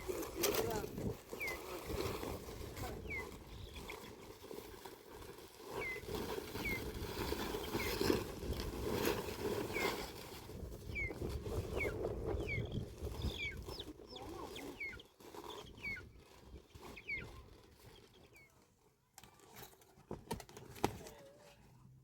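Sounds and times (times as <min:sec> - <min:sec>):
small birds chirping: 0:00.0 - 0:08.7, 0:09.5 - 0:18.8
rustling: 0:00.0 - 0:21.9.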